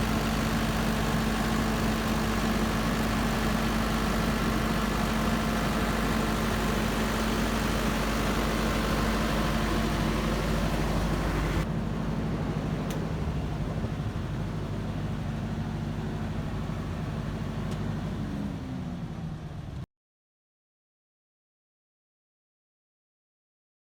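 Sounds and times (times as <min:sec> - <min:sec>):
diesel generator running: 0:00.0 - 0:19.9.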